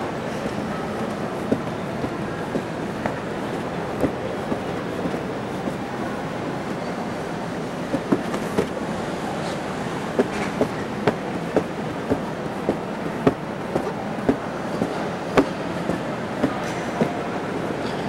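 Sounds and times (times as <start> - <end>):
footsteps on staircase: 0.0 - 18.0.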